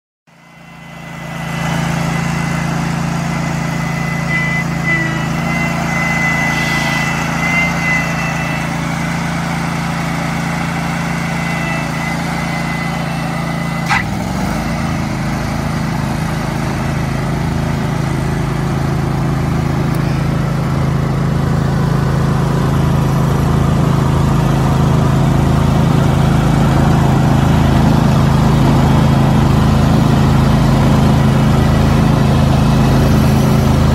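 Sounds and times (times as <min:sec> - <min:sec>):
high whine: 0:00.3 - 0:33.9
lawn aerator engine running: 0:00.3 - 0:33.9.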